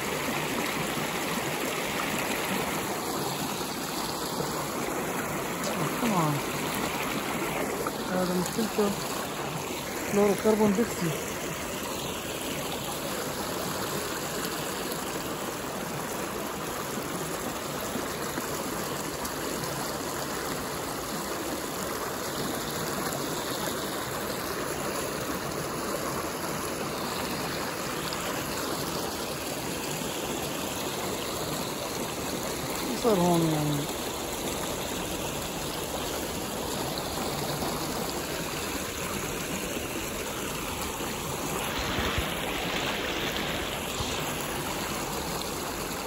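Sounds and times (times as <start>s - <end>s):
creek water running over rocks: 0.0s - 46.0s.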